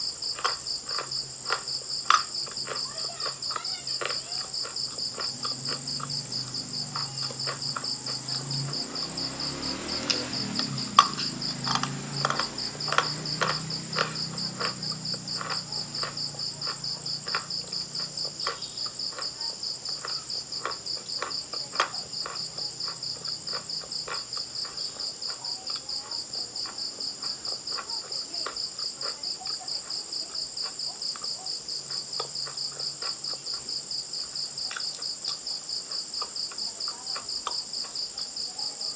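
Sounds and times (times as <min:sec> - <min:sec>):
crickets chirping: 0:00.0 - 0:38.9
crunching and chewing: 0:00.0 - 0:38.9.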